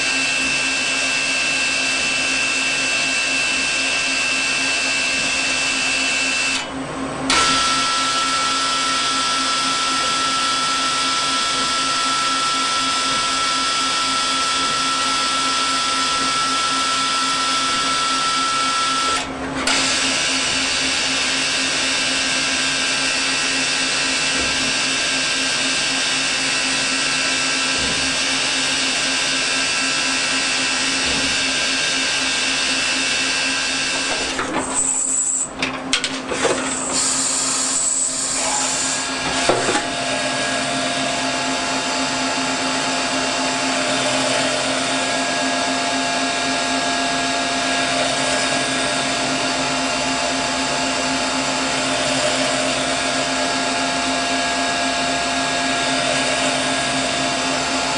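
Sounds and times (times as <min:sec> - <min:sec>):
high machine whine: 0:00.0 - 0:57.9
lathe machine whir: 0:00.0 - 0:57.9.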